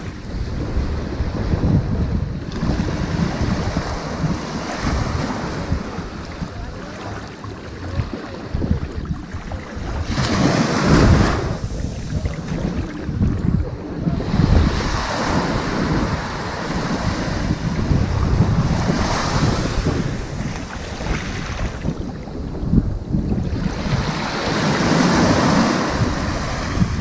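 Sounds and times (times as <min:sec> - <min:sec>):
ocean waves on sandy beach: 0:00.0 - 0:27.0.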